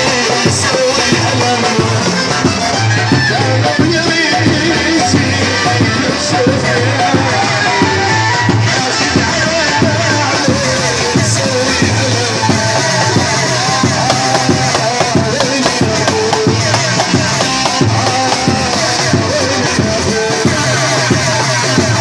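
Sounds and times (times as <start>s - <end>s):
wavering melody line: 0.0s - 19.4s
steady drum beat: 0.0s - 22.0s.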